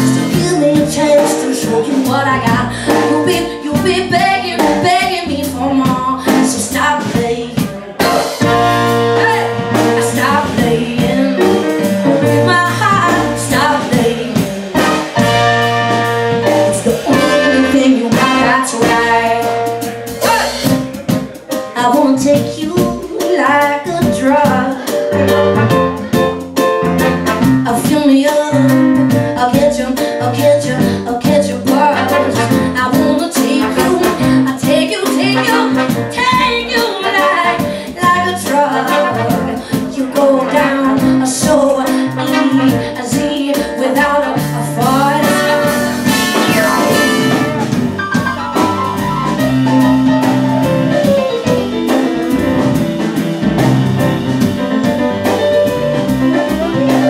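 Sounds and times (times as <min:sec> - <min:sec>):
jazz blues band playing: 0:00.0 - 0:57.0.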